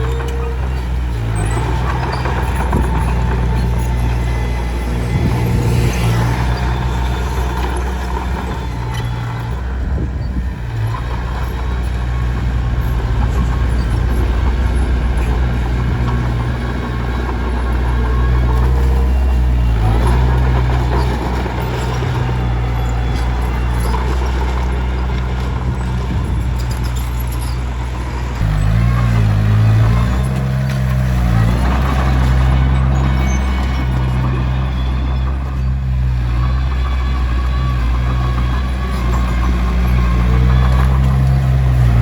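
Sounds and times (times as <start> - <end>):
bulldozer diesel engine under load: 0.0 - 42.0.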